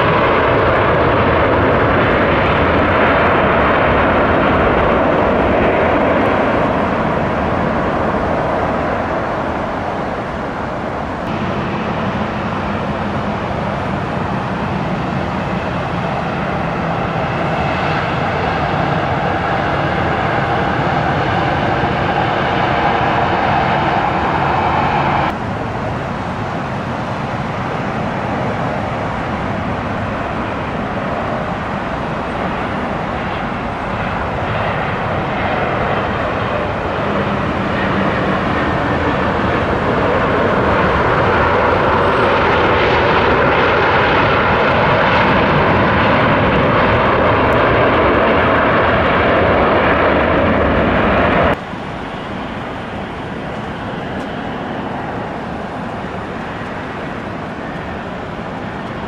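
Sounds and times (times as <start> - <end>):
airliner engines rushing: 0.0 - 59.0.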